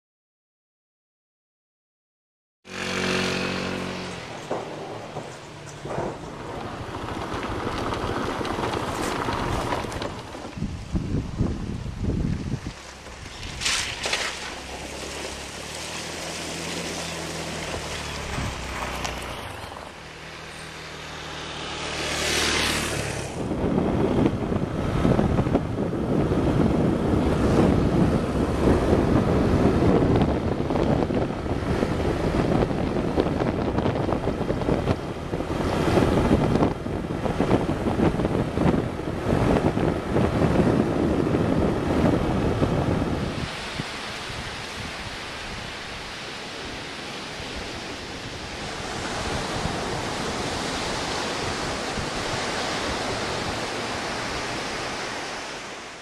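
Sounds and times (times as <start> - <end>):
scooter engine passing: 2.7 - 10.7, 12.7 - 55.7
wind buffeting microphone: 3.8 - 55.7
surf breaking: 4.2 - 24.3, 26.8 - 56.0.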